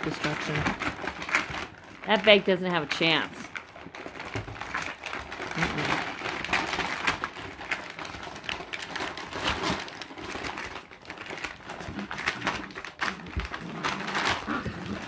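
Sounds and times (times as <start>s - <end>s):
bag crinkling and rustling: 0.0s - 15.0s.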